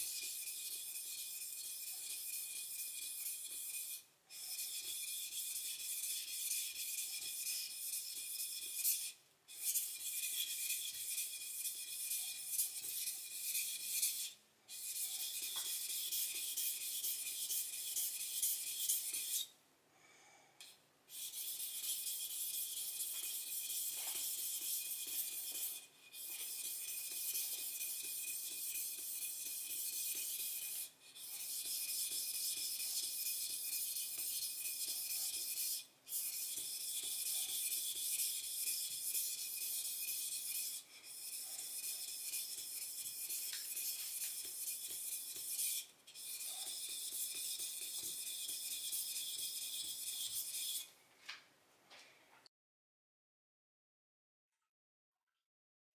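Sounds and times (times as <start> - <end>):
knife scraping on whetstone: 0.0 - 19.4, 21.1 - 50.9.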